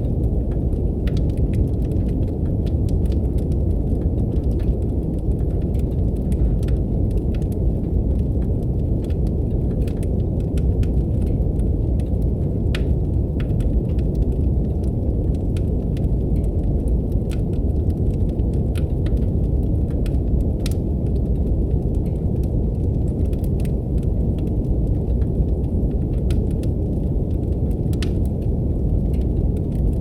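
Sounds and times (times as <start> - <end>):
deep brown noise rumble: 0.0 - 30.0
wood fire crackling: 0.0 - 30.0.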